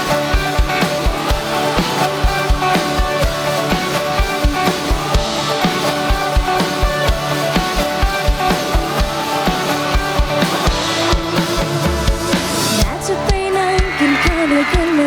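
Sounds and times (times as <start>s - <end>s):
instrumental pop music: 0.0s - 15.0s.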